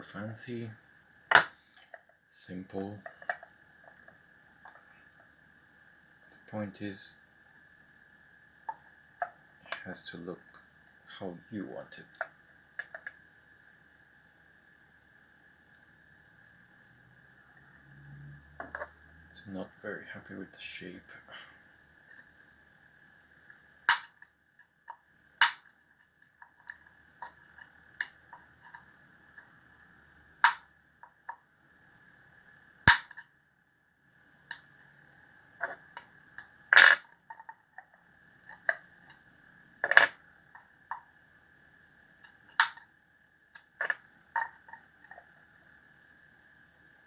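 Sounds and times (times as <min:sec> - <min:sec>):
faint high whine: 0:00.0 - 0:47.0.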